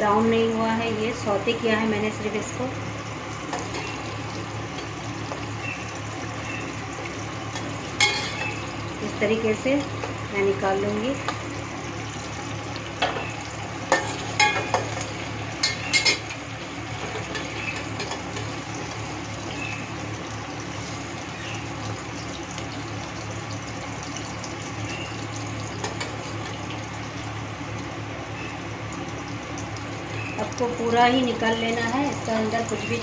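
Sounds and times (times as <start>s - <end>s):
oil sizzling in a pan: 0.0s - 33.0s.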